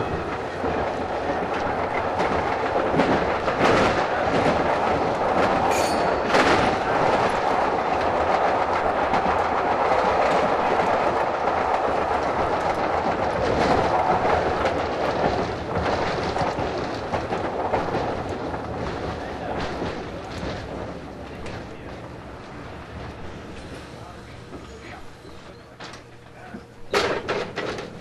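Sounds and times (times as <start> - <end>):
tram rumble: 0.0 - 28.0
wheels clicking over rail joints: 0.0 - 28.0.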